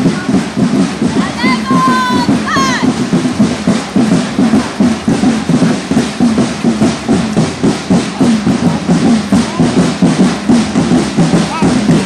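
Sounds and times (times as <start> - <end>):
snare drums marching cadence: 0.0 - 12.0.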